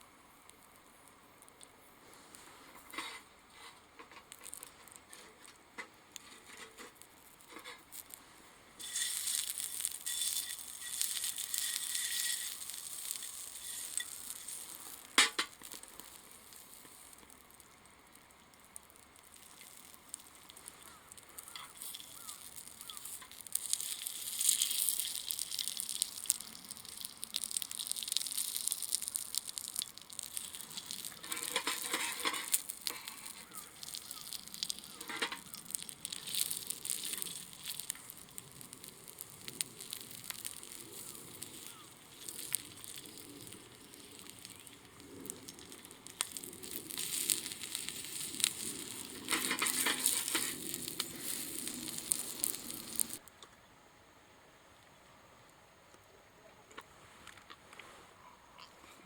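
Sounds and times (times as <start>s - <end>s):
stove sizzling hiss: 0.0s - 53.3s.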